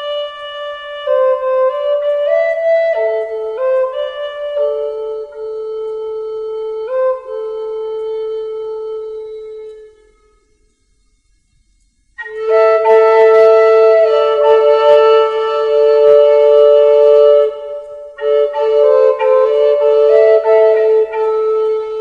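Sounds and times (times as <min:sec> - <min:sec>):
flute playing long notes: 0:00.0 - 0:10.5, 0:12.2 - 0:22.0.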